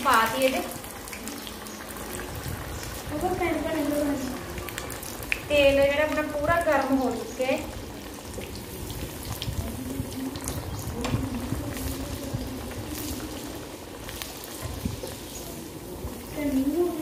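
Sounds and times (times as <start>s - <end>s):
crackles and pops of frying: 0.0s - 17.0s
oil bubbling deep-frying: 0.0s - 17.0s.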